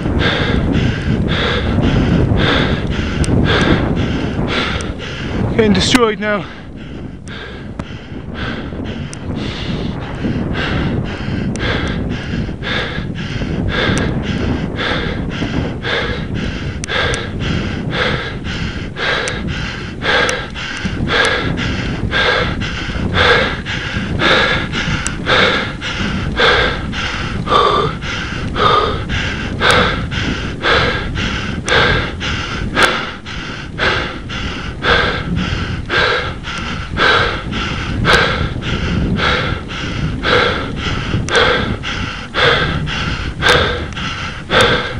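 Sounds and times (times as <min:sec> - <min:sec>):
person gasping breaths: 0:00.0 - 0:05.6, 0:06.4 - 0:44.9
low rumble: 0:00.0 - 0:44.9.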